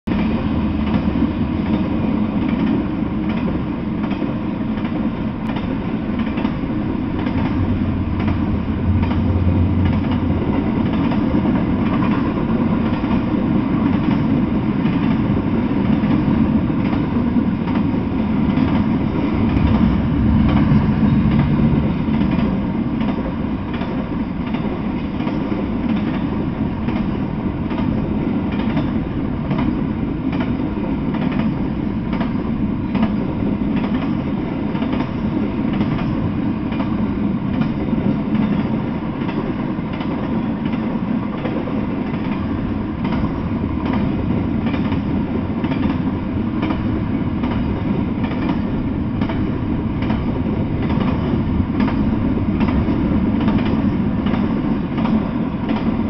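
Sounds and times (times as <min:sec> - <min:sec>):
rumble of steel wheels on rails: 0:00.0 - 0:56.0
freight train cars rolling past: 0:00.1 - 0:56.0
train wheels clicking and rattling: 0:00.1 - 0:56.0.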